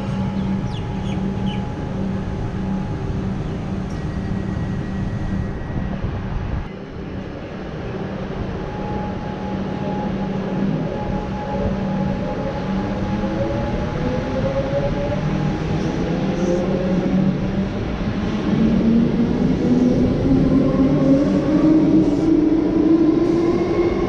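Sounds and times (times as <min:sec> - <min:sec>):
electric train hum: 0:00.0 - 0:24.0
wheels rumbling on rail: 0:00.0 - 0:24.0.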